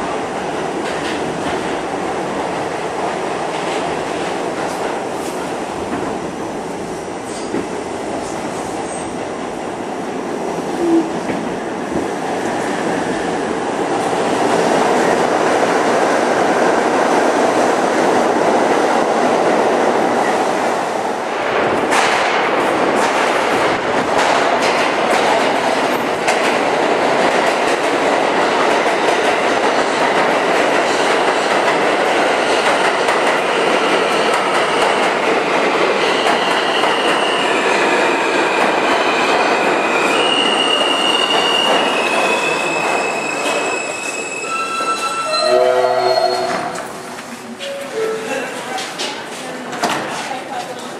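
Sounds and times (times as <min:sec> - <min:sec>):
subway car rumble: 0:00.0 - 0:50.9.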